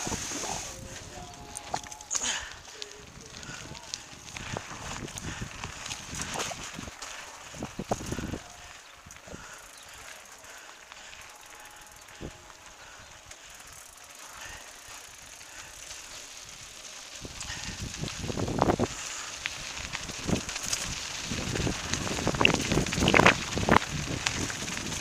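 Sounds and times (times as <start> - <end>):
bicycle running noise: 0.0 - 25.0
gusty wind buffeting: 0.0 - 25.0
bicycle click: 1.0 - 25.0.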